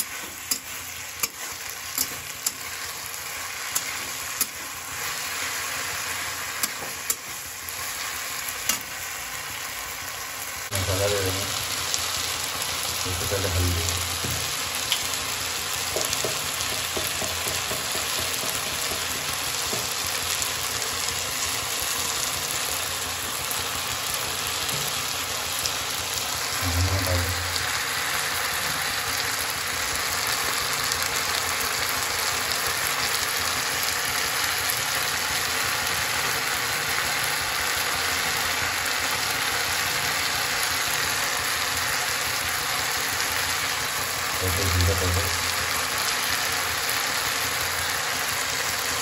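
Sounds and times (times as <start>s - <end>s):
vegetables sizzling in oil: 0.0s - 49.0s.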